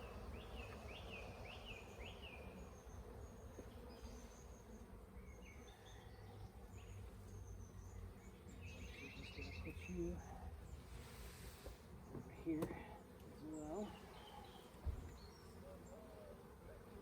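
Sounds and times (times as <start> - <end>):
bird chirping: 0.0 - 10.8, 13.4 - 16.4
honeybees humming: 0.0 - 17.0.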